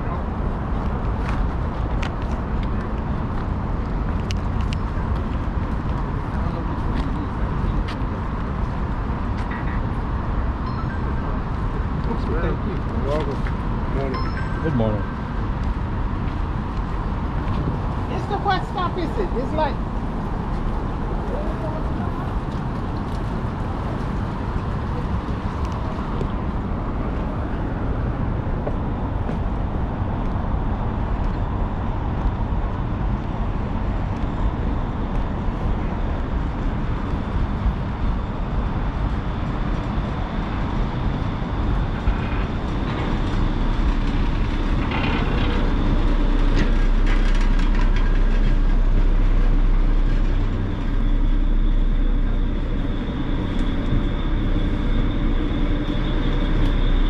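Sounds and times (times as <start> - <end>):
ferry engines rumbling: 0.0 - 57.0.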